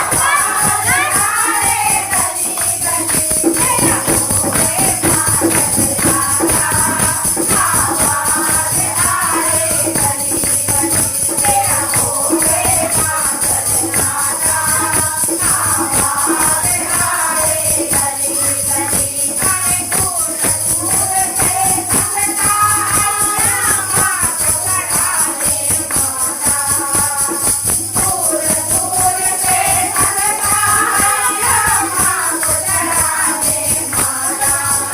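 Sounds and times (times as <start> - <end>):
group singing devotional song: 0.0 - 34.9
steady rhythmic beat: 0.0 - 34.9
tambourine jingles: 0.0 - 34.9.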